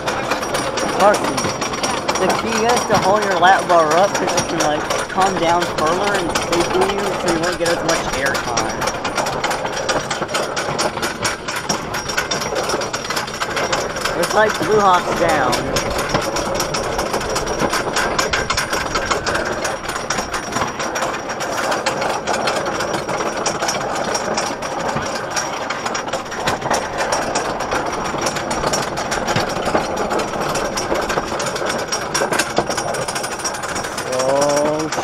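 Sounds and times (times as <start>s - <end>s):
wooden roller coaster rattling: 0.0s - 35.0s.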